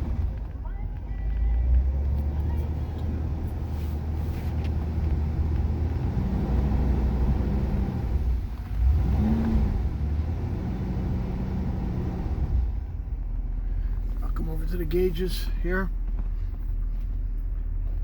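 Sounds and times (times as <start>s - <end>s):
car engine rumbling and revving: 0.0s - 18.0s.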